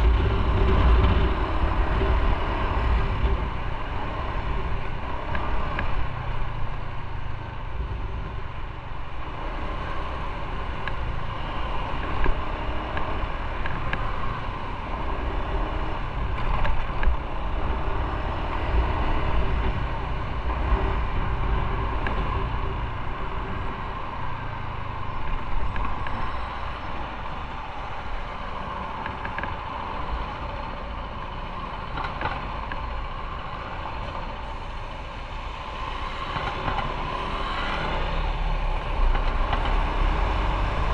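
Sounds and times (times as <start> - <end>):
motorcycle engine drone: 0.0 - 40.9
road and wind noise: 0.0 - 40.9.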